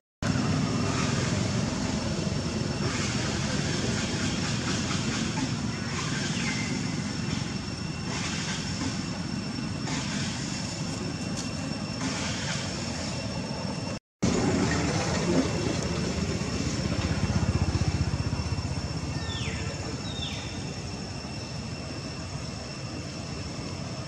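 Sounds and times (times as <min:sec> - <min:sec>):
outdoor background noise: 0:00.2 - 0:24.0.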